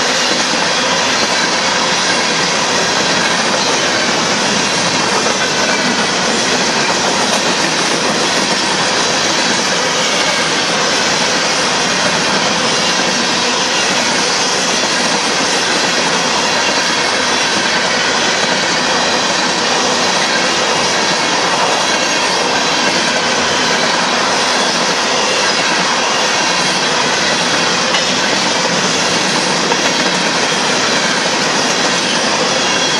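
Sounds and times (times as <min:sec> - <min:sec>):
freight train wheels rolling on rails: 0:00.0 - 0:32.9.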